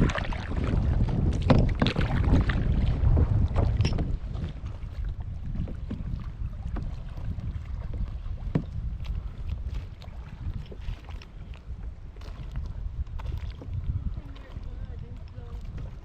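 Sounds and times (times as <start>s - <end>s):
water splashing and sloshing: 0.0s - 16.0s
wind buffeting microphone: 0.0s - 16.0s.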